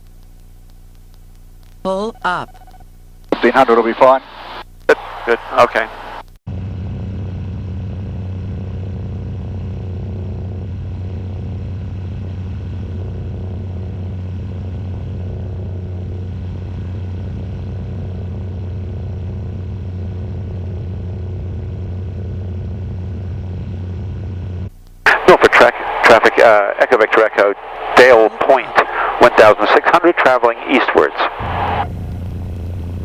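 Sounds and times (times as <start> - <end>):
airplane engine and propeller drone: 3.3 - 33.0.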